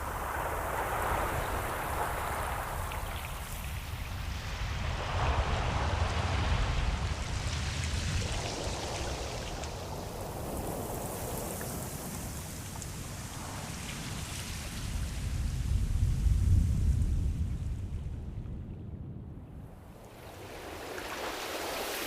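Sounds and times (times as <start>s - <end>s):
ocean surf: 0.0s - 16.5s, 20.0s - 22.0s.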